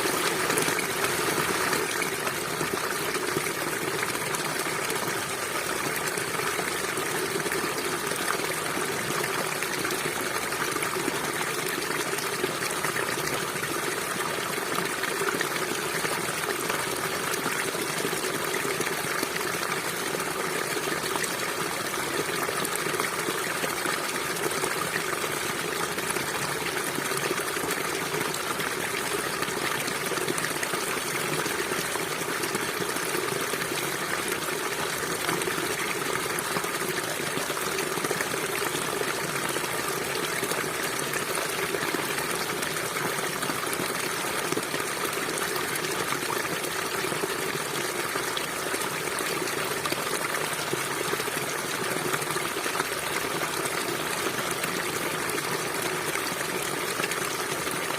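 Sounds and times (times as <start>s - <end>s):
river water flowing over rocks: 0.0s - 57.9s.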